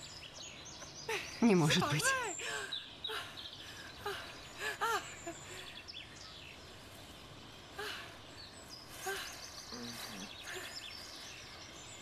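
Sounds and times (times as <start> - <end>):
background hiss: 0.0 - 12.0
birds chirping: 0.0 - 12.0.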